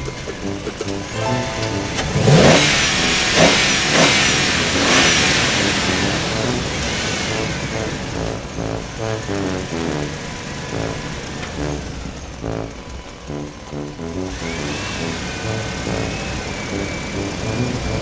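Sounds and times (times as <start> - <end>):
background music: 0.0 - 18.0
cartoon rising whoosh: 1.1 - 11.9, 12.5 - 18.0.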